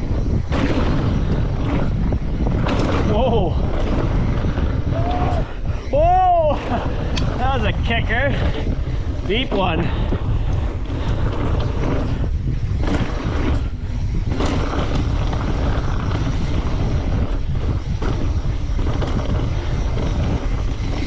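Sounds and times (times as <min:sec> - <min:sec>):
bike clacking over bumps: 0:00.0 - 0:21.0
bike tyres rushing and rattling: 0:00.0 - 0:21.0
wind buffeting microphone: 0:00.0 - 0:21.0.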